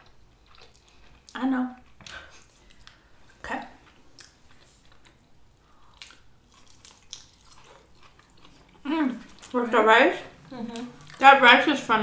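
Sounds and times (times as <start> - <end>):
chewing with wet mouth noises: 0.0 - 9.6, 10.4 - 11.4.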